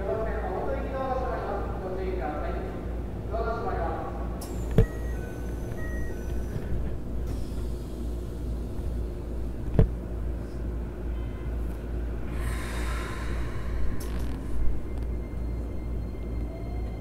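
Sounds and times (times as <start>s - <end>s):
steady low equipment hum: 0.0s - 17.0s.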